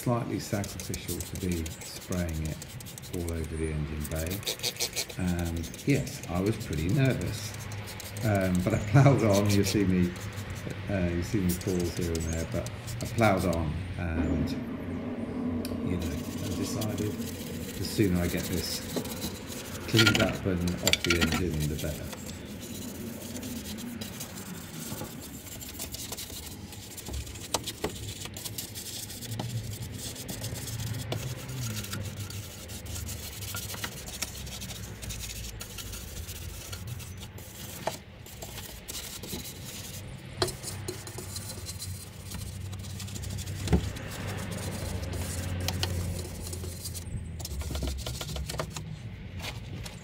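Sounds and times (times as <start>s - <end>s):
rubbing and scrubbing: 0.0s - 14.7s, 15.9s - 50.0s.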